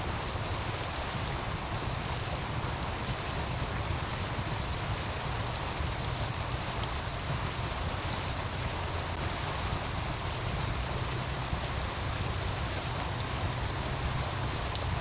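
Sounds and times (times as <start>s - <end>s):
low rumble: 0.0s - 15.0s
small stream rushing: 0.0s - 15.0s
wood fire crackling: 0.0s - 15.0s.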